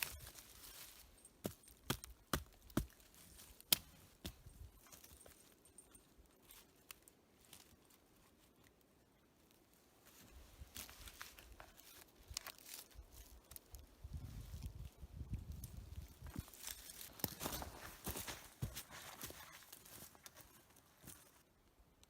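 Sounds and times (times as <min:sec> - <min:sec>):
dry twigs crackling and snapping: 0:00.0 - 0:21.4.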